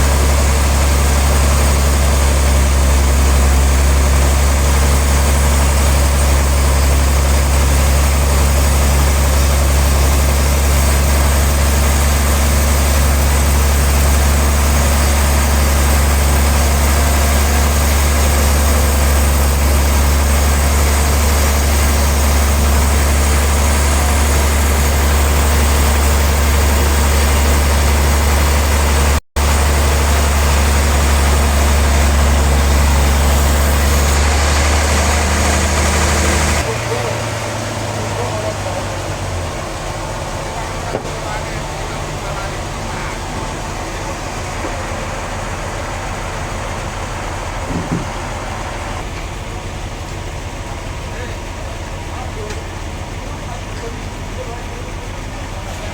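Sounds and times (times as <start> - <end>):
sawmill machinery humming: 0.0 - 55.9.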